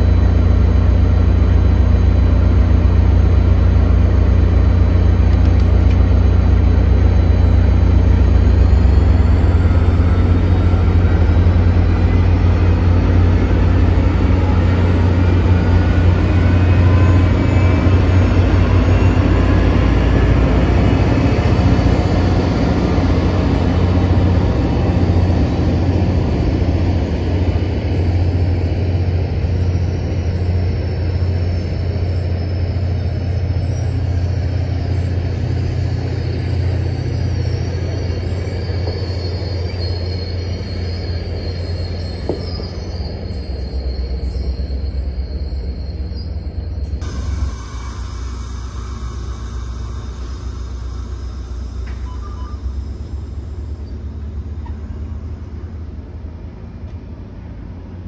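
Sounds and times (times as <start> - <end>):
thin whine rising in pitch: 0.0 - 56.8
diesel locomotive engine drone: 0.0 - 58.0
train cars rolling by: 0.0 - 58.0.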